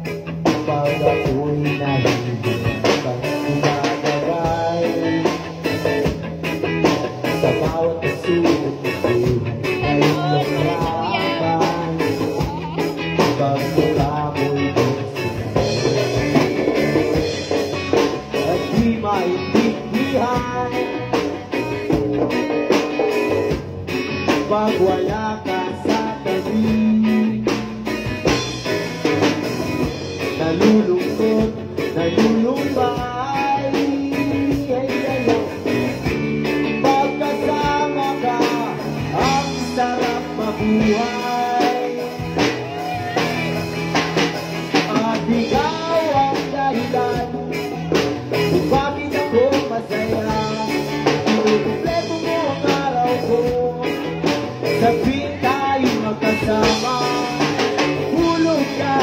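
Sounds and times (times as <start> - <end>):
live band playing: 0.0 - 59.0
person singing lead vocal: 0.0 - 59.0.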